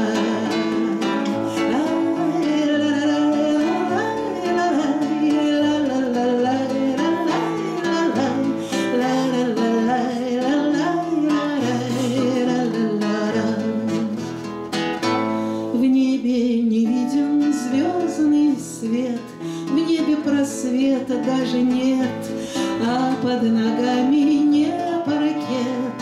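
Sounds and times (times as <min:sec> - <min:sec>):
classical guitar strummed: 0:00.0 - 0:26.0
woman singing: 0:00.0 - 0:26.0.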